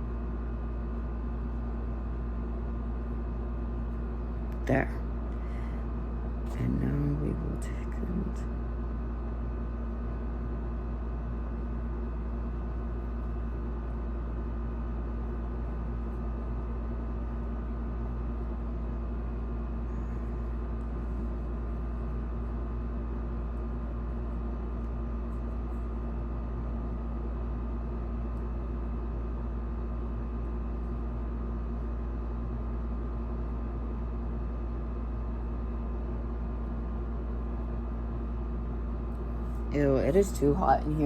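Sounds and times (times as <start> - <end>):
mechanical hum with drone: 0.0 - 41.0.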